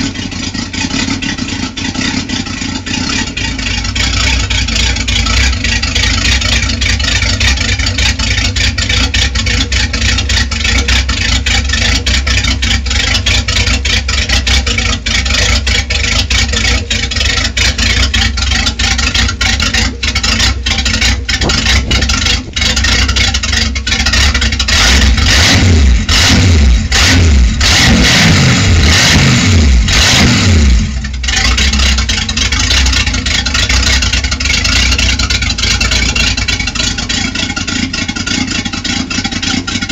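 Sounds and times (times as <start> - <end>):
boat engine idling and revving: 0.0 - 39.9.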